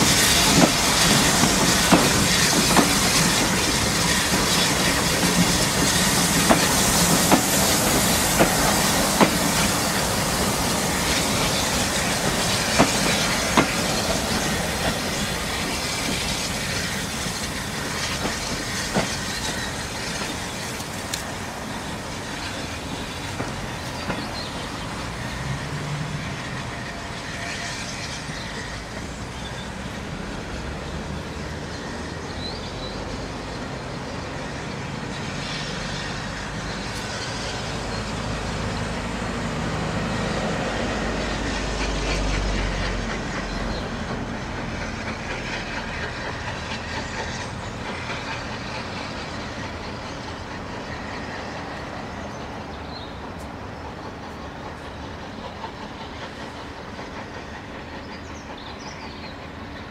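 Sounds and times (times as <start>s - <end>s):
train wheels rumbling and clattering: 0.0s - 59.9s.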